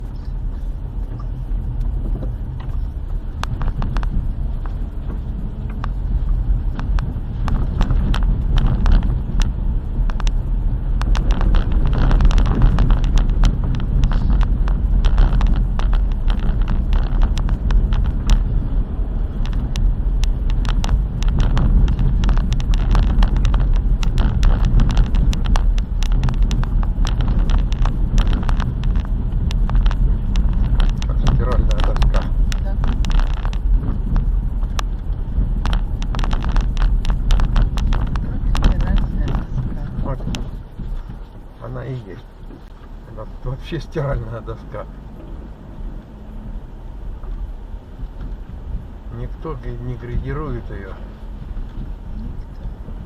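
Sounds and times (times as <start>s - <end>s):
car rumbling on unpaved road: 0.0s - 53.0s
suspension knocks and rattles: 0.0s - 53.0s.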